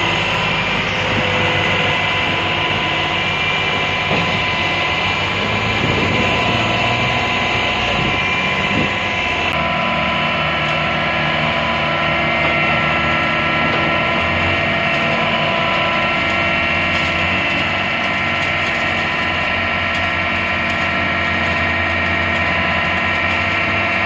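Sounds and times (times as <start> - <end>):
shredder machine hum: 0.0 - 24.0.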